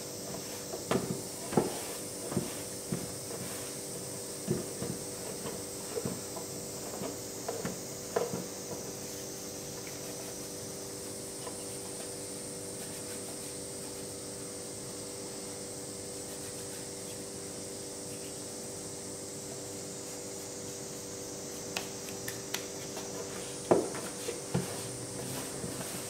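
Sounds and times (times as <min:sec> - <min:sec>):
steady background hiss and hum: 0:00.0 - 0:26.0.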